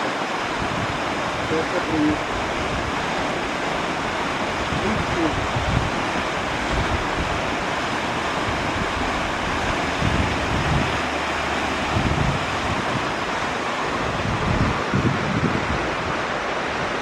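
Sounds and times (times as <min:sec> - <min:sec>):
waterfall rushing: 0:00.0 - 0:17.0
wind buffeting the microphone: 0:00.0 - 0:17.0.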